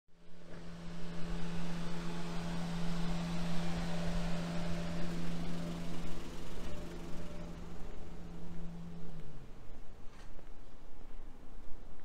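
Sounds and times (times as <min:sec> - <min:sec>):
low mechanical hum: 0:00.1 - 0:12.0
street background noise: 0:00.2 - 0:12.0.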